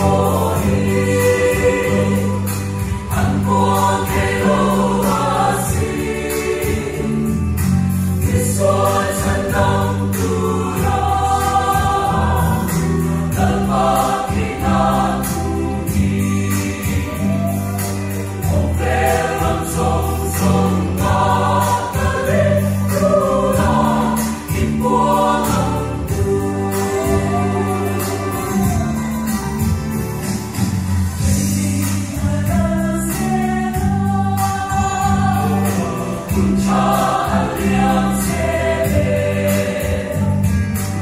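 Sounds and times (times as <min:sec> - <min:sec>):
choir singing a hymn: 0:00.0 - 0:29.3, 0:31.2 - 0:41.0
band with bass and beat: 0:00.0 - 0:41.0.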